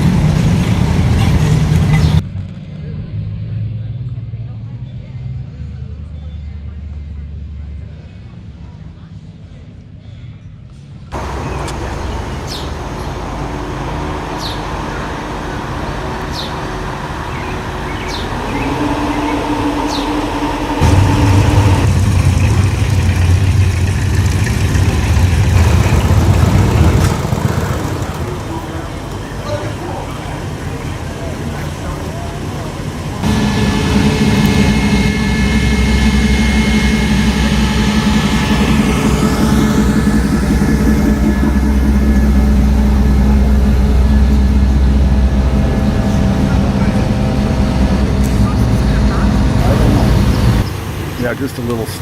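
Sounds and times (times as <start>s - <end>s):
car engine idling: 0.0s - 2.2s, 11.1s - 52.0s.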